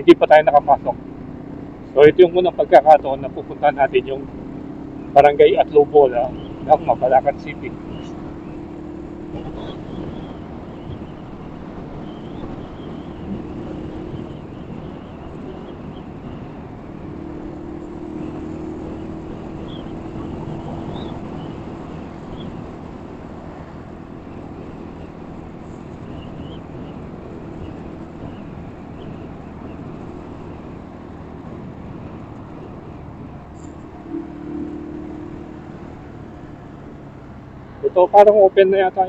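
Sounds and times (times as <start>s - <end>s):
tyre noise on road: 0.0s - 39.0s
vehicle engine hum: 0.0s - 39.0s.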